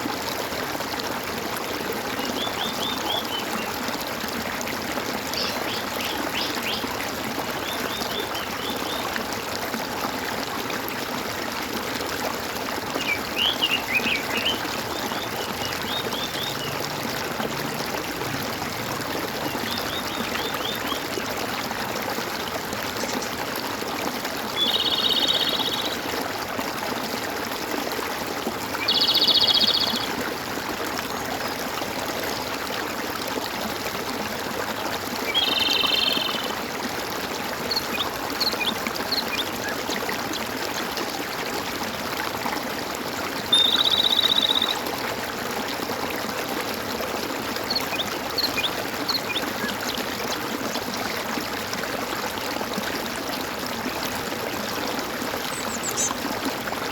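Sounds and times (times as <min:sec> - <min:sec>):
stream gurgling: 0:00.0 - 0:56.9.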